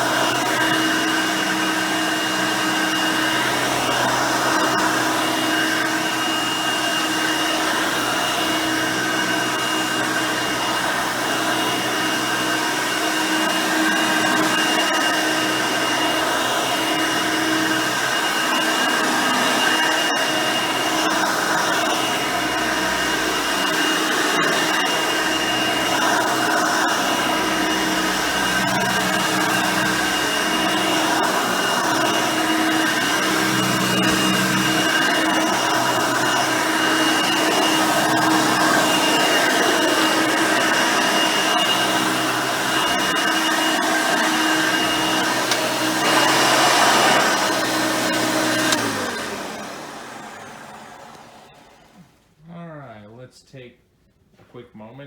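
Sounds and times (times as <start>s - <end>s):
upright vacuum cleaner running: 0.0s - 52.1s.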